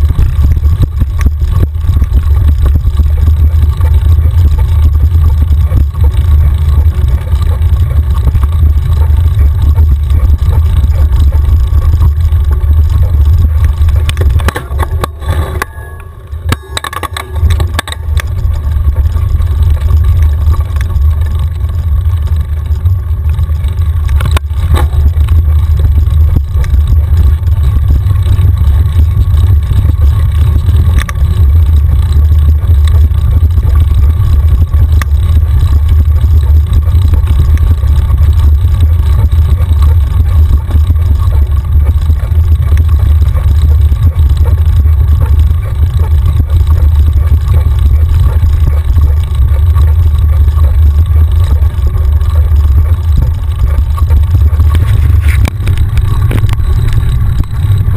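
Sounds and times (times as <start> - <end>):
bike ride vibration rumble: 0.0 - 57.9.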